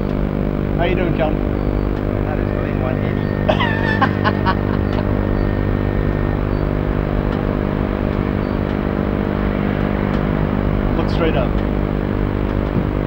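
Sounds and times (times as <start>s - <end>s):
steady motor hum: 0.0s - 13.0s.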